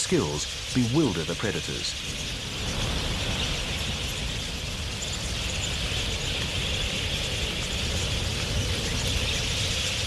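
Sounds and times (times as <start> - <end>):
flock of birds chattering: 0.0 - 10.0.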